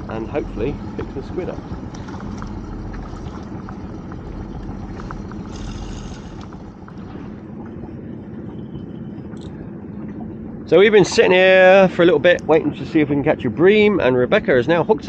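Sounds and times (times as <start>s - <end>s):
water around a boat: 0.0s - 15.0s
wind: 0.0s - 15.0s.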